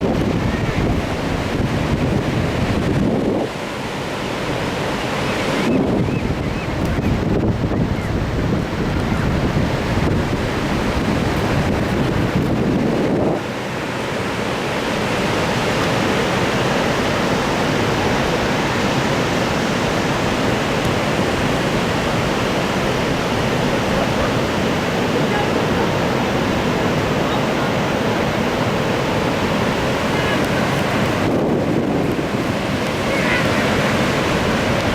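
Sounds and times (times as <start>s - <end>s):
ocean surf washing on beach: 0.0s - 34.9s
wind buffeting microphone: 0.0s - 34.9s.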